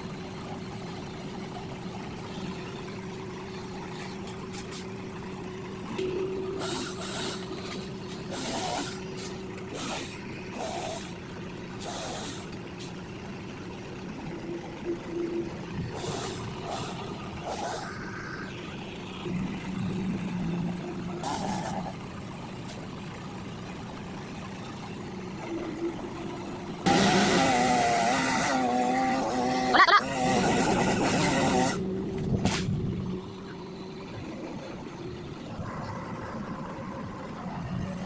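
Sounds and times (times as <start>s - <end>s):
steady engine hum: 0.0s - 38.0s.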